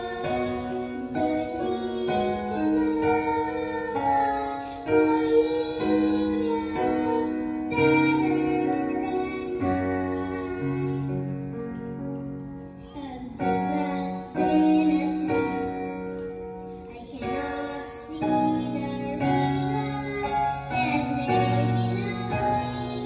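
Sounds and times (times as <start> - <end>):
boy singing a ballad: 0.0 - 23.0.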